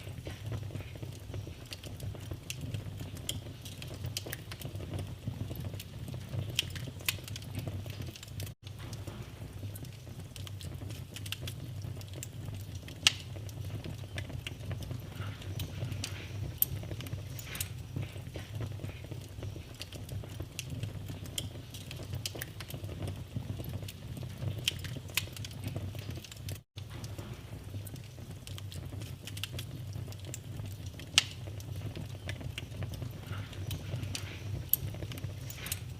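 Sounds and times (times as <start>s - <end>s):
fire crackling and popping: 0.0s - 35.9s
low fire rumble: 0.0s - 35.9s.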